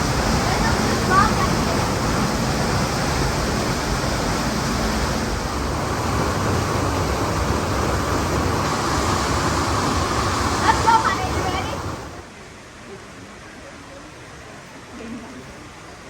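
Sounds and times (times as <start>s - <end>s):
river and waterfall rushing: 0.0s - 14.9s.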